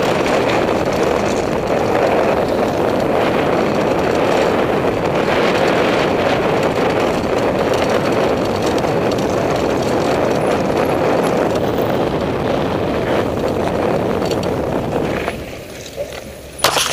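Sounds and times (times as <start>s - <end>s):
bike tyres rolling on gravel: 0.0s - 16.9s
wind rushing over microphone: 0.0s - 16.9s.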